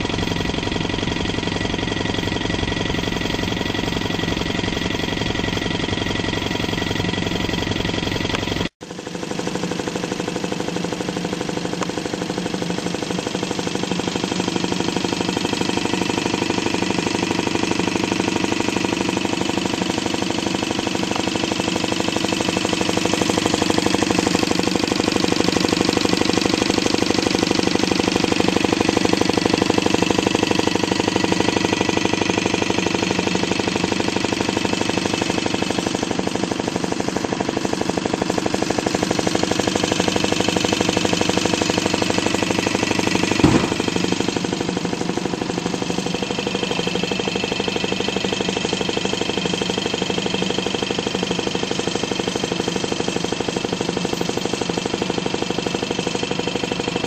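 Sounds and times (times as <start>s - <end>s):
engine mechanical clatter: 0.0s - 57.0s.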